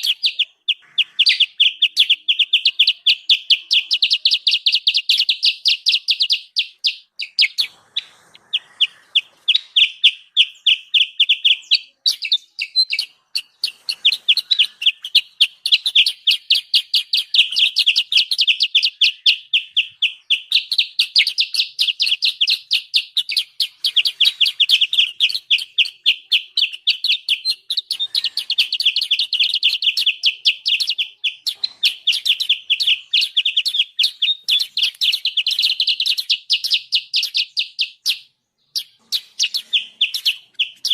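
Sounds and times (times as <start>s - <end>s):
bird chattering sharp chips: 0.0s - 38.2s.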